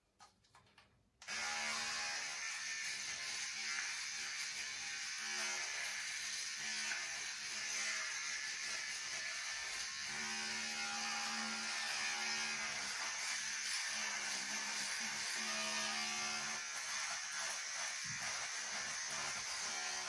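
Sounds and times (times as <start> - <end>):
electric hair clippers buzzing: 1.2 - 20.0.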